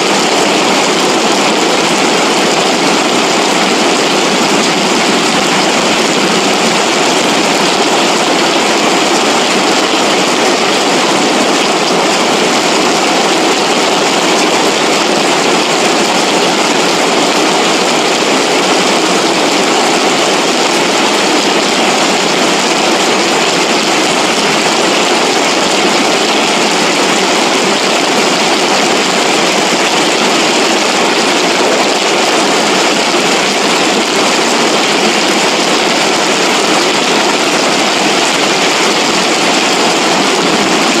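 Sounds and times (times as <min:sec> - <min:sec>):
floodwater rushing down ravine: 0:00.0 - 0:41.0.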